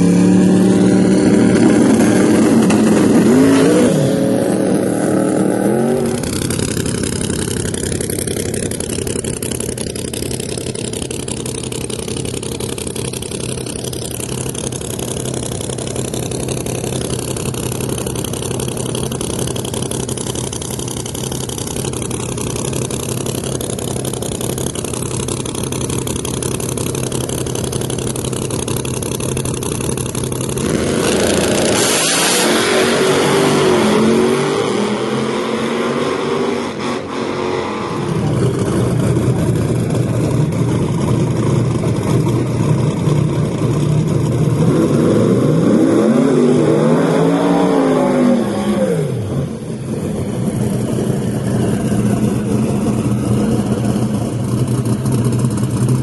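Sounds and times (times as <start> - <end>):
race car engines idling: 0.0 - 31.9, 37.9 - 46.8, 48.3 - 56.0
engine revving: 0.0 - 40.7, 42.9 - 56.0.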